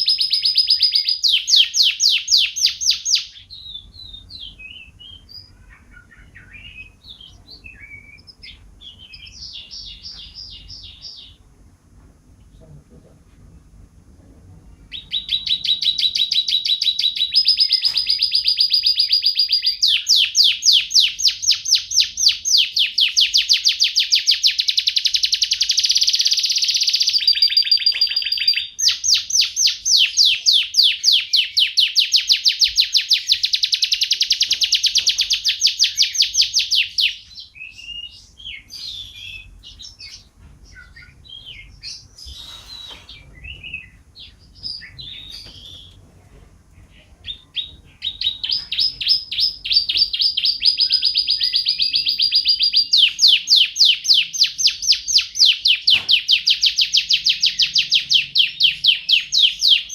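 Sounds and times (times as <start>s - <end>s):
canary chirps: 0.0s - 11.6s, 14.7s - 46.0s, 46.7s - 59.9s
canary singing trills: 0.0s - 11.6s, 14.8s - 46.0s, 46.8s - 59.9s.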